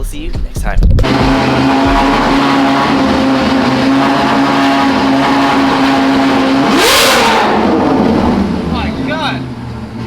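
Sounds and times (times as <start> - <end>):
loud car engine revving: 1.0 - 10.0.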